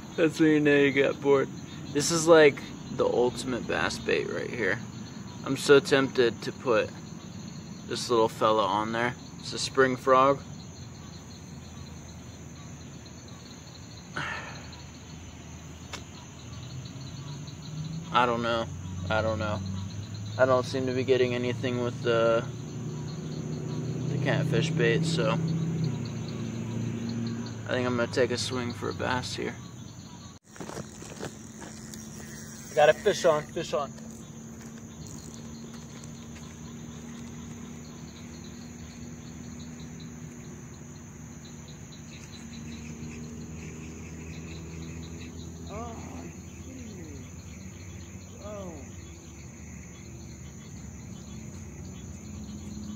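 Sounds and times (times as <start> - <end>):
crickets chirping: 0.0 - 52.9
high insect drone: 0.0 - 52.9.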